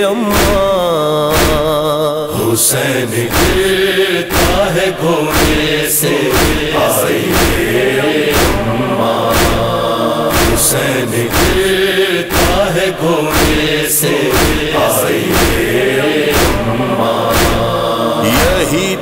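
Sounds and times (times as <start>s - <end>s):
chorus of voices chanting: 0.0s - 19.0s
sharp beat: 0.3s - 1.9s, 3.3s - 19.0s.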